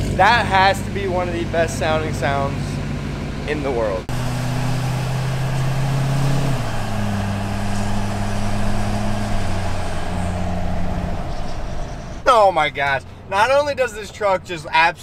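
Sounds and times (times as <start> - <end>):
diesel engine drone: 0.0 - 15.0
road noise: 0.0 - 15.0.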